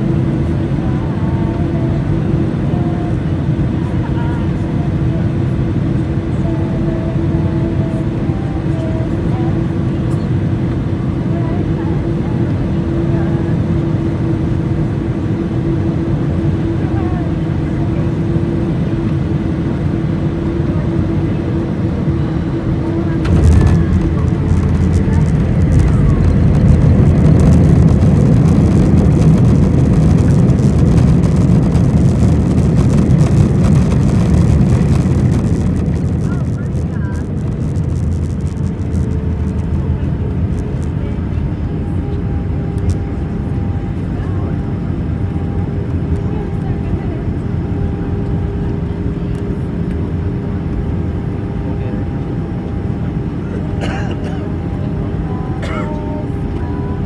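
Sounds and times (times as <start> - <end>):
airplane cabin rumble: 0.0 - 57.0
steady hum: 0.0 - 57.0.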